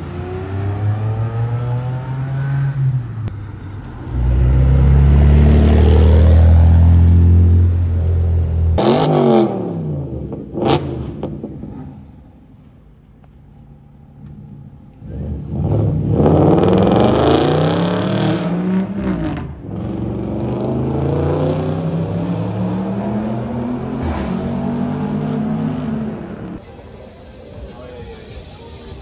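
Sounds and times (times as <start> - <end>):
sports car engine accelerating: 0.0 - 12.0, 14.1 - 26.6.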